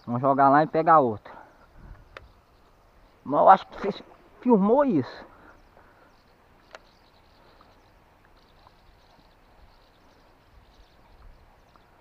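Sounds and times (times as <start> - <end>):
insects chirping: 1.5 - 12.0.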